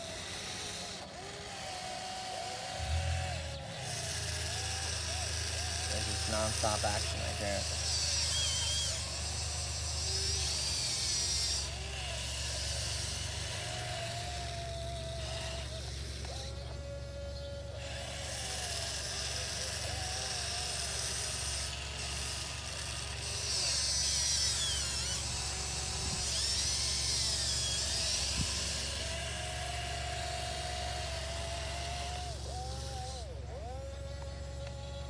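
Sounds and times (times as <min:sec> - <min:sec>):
excavator electric motors whining: 0:00.0 - 0:35.0.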